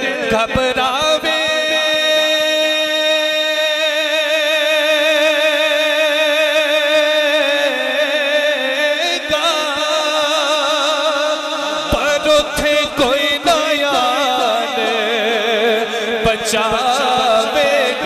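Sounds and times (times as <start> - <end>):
man singing through a microphone: 0.0 - 18.0.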